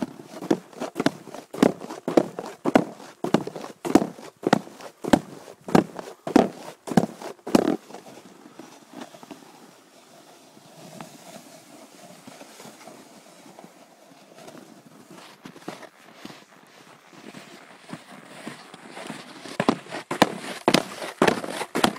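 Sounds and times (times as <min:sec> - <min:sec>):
footsteps in snow: 0:00.0 - 0:09.4, 0:10.2 - 0:21.9.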